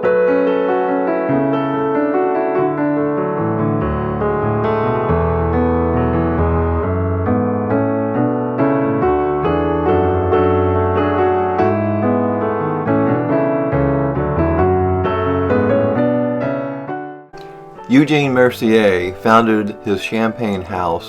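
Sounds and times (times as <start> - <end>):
piano background music: 0.0 - 21.0.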